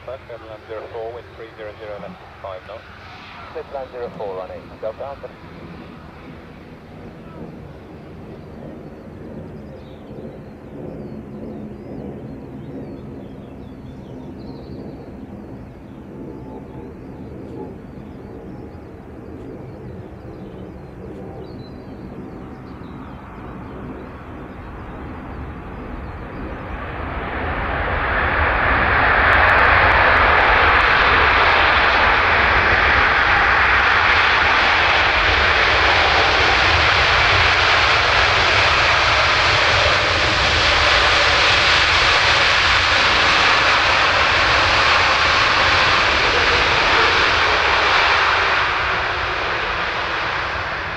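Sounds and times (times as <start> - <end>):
aircraft engine: 0.0 - 50.9.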